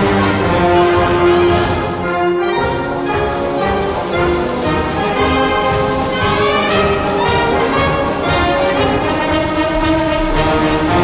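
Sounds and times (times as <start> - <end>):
wind band playing a march: 0.0 - 11.0.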